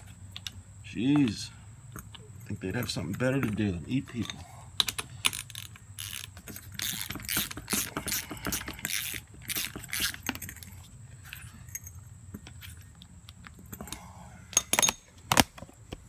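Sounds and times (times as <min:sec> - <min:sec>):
tools clicking and scraping on metal: 0:00.0 - 0:16.0.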